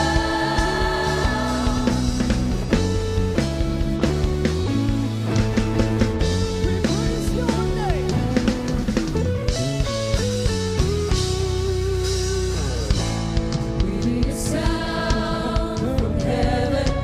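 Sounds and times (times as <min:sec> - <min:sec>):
band playing: 0:00.0 - 0:17.0
wavering electric guitar melody: 0:00.0 - 0:17.0.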